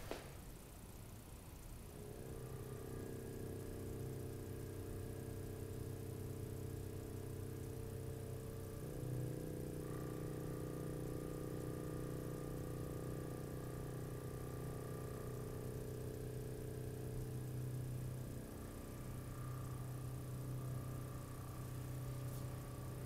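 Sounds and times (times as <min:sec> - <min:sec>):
faint high steady tone: 0:01.0 - 0:23.0
string vibrator buzzing: 0:01.0 - 0:23.0.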